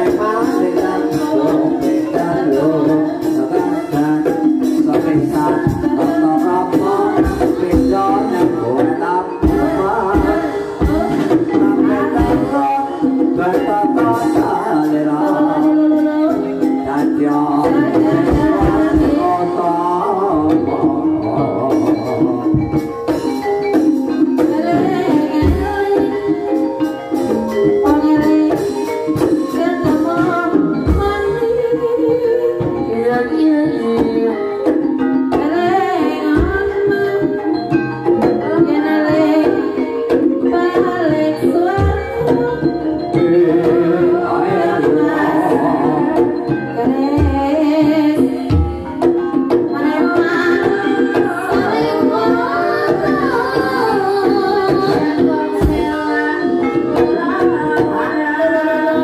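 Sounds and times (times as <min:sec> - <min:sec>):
instrumental and percussion music: 0:00.0 - 0:59.0
woman singing: 0:00.0 - 0:59.0.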